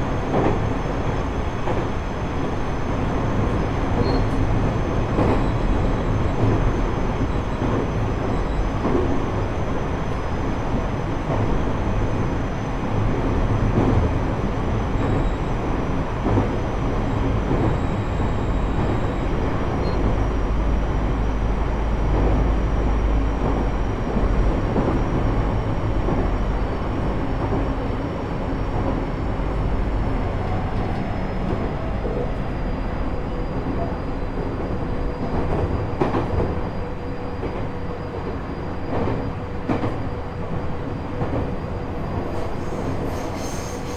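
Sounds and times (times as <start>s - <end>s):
wheels rumbling on rail: 0.0s - 43.9s.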